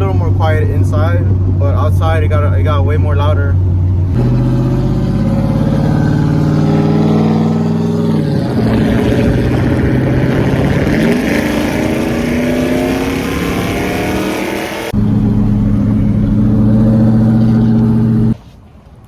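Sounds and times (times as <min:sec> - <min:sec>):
straight-piped truck engine accelerating: 0:00.0 - 0:18.4.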